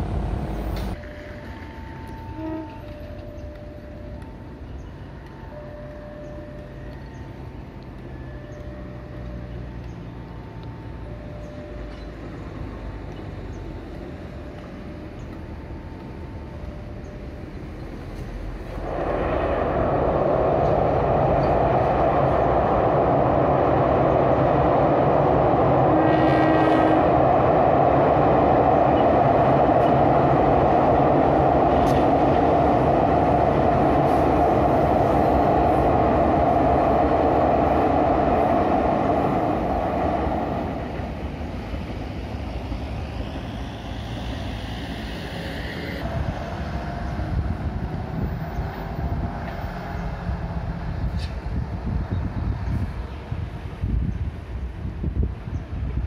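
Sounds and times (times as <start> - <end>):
road traffic: 0.0 - 56.0
train wheels rumbling on rails: 0.0 - 56.0.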